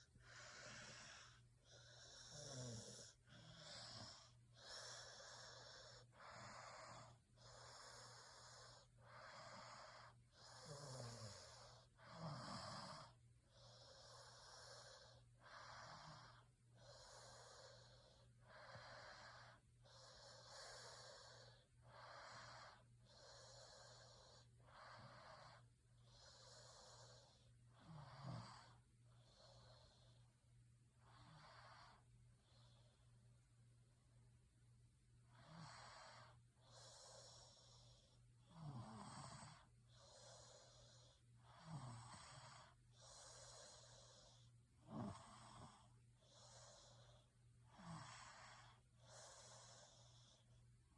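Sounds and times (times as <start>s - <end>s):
person snoring faintly: 0.0s - 30.3s, 35.2s - 50.6s.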